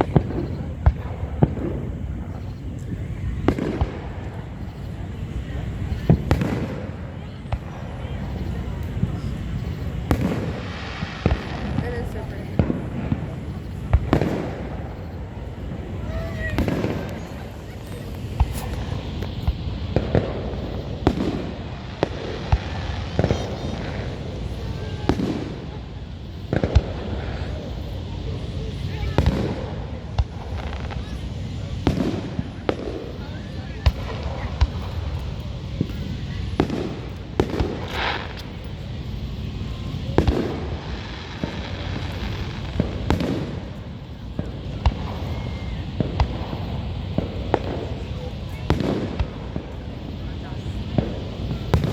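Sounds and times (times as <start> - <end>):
fireworks bangs and pops: 0.0 - 51.9
steady background noise: 0.0 - 51.9.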